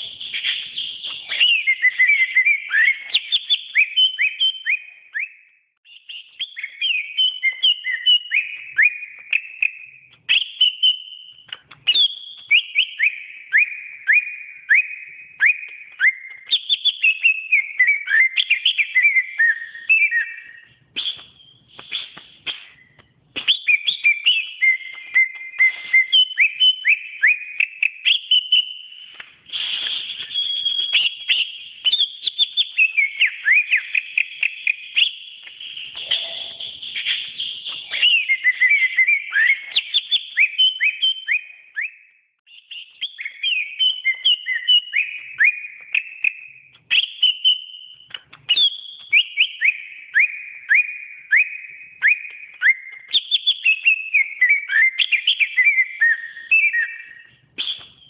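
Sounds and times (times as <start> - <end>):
bird singing whistled trills: 0.0 - 58.0.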